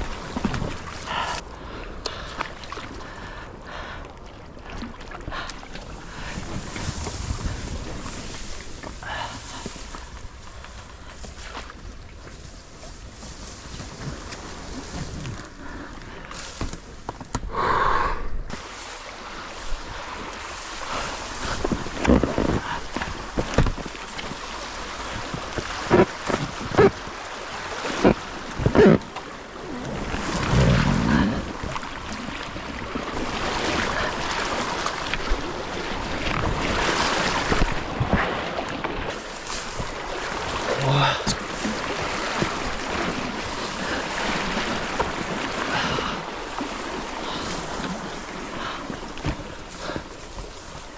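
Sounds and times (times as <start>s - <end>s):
water sloshing around boat: 0.0s - 17.6s, 18.5s - 50.9s.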